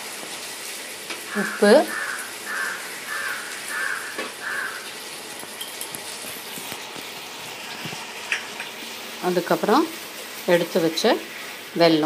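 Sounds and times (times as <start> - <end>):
thick mixture sizzling and bubbling: 0.0 - 12.0.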